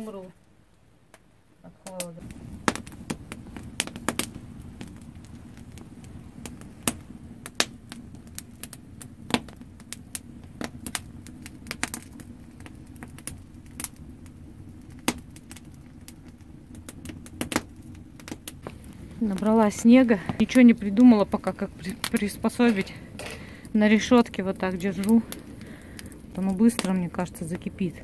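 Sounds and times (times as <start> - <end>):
campfire crackling: 0.0 - 28.0
low rumble of burning: 0.0 - 28.0
sharp fire pops: 1.1 - 28.0.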